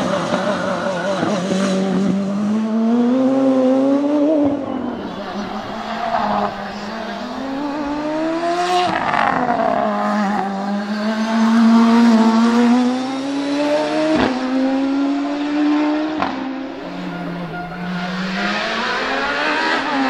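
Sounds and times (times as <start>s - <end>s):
race car engine at full throttle: 0.0s - 20.0s.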